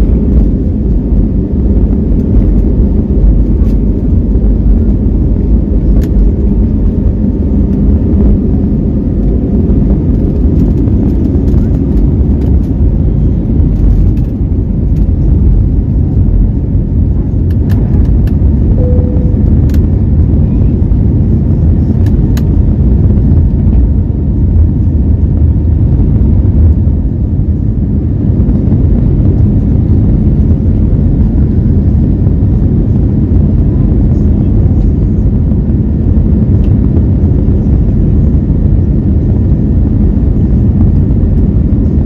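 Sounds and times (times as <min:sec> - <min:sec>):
airflow over fuselage: 0:00.0 - 0:42.0
jet engine cabin rumble: 0:00.0 - 0:42.0.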